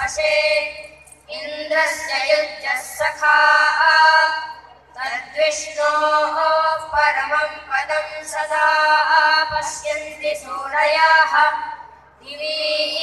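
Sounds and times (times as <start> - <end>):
boys singing in unison: 0.0 - 13.0.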